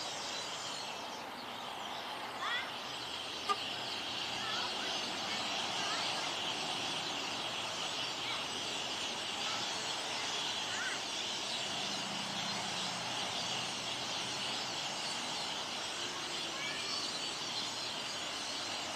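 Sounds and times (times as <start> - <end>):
flock of birds chattering: 0.0 - 18.9.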